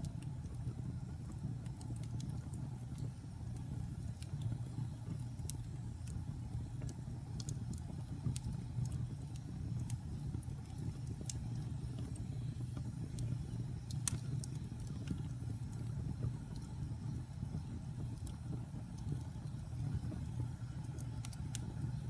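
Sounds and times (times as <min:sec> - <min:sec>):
fire crackling and popping: 0:00.0 - 0:22.0
wood fire rumbling: 0:00.0 - 0:22.0.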